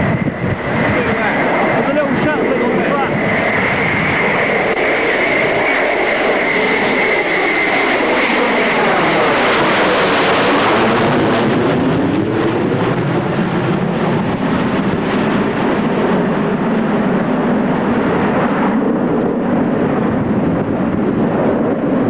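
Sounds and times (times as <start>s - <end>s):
jet airliner roar passing low: 0.0s - 22.0s.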